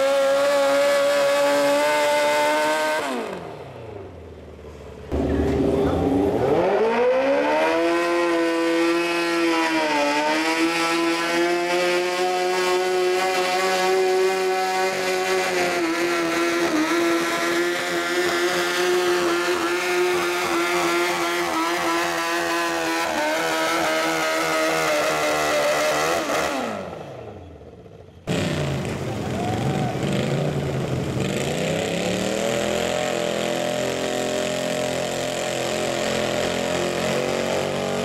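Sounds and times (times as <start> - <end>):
lawn mower engine revving: 0.0 - 4.0, 5.1 - 27.2, 28.3 - 38.0.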